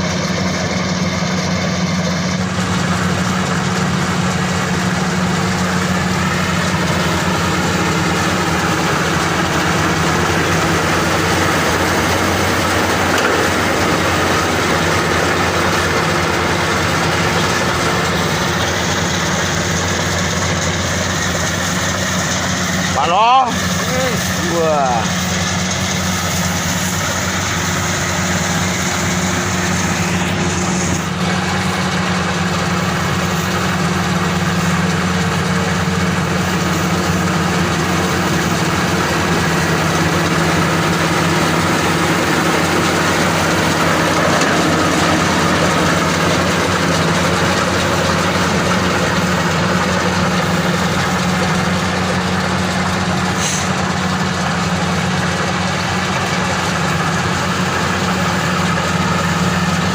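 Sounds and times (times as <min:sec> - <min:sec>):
combine harvester engine humming: 0:00.0 - 0:59.9.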